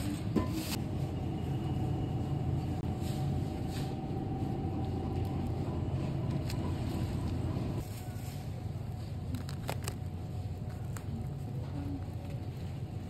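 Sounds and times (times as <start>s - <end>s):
faint constant hum: 0.0s - 13.0s.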